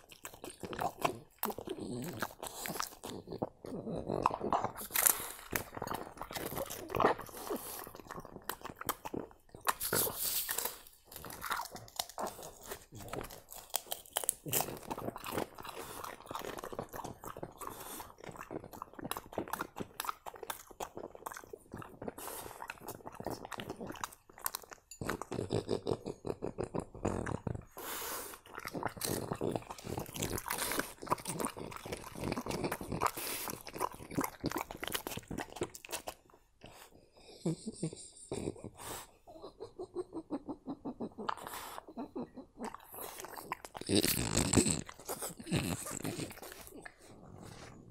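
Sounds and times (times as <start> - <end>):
dog chewing and licking food: 0.0 - 37.0, 41.2 - 47.9.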